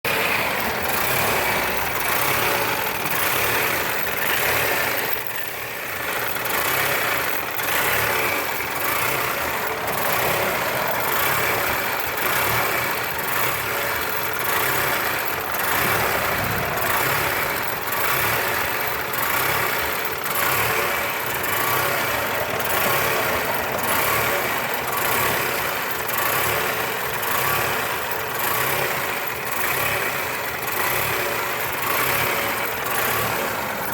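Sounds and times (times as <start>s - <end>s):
engine idling roughly: 0.0s - 33.9s.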